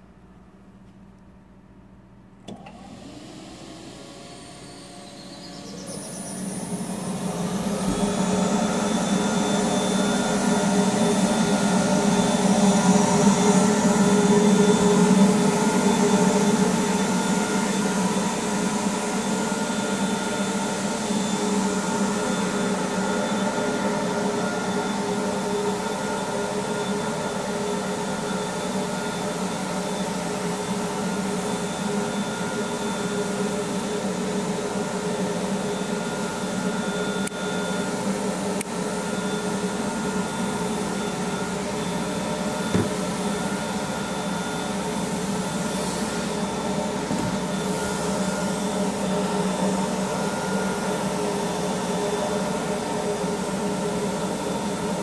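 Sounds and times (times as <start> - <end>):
dust extractor motor whine: 2.4 - 55.0.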